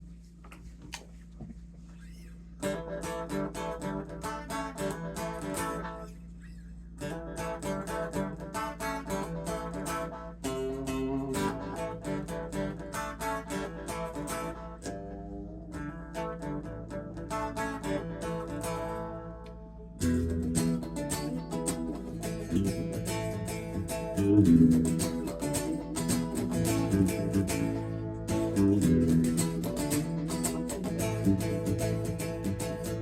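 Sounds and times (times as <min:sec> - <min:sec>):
steady low hum: 0:00.0 - 0:33.0
electric guitar chords with echo: 0:02.6 - 0:06.1, 0:07.0 - 0:33.0.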